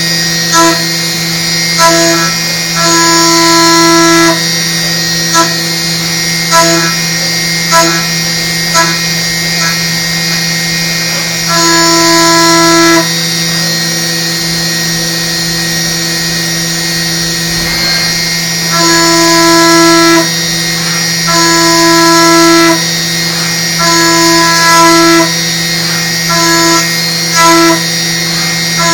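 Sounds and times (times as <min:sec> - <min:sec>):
end mill cutting whine: 0:00.0 - 0:28.9
milling machine spindle hum: 0:00.0 - 0:28.9.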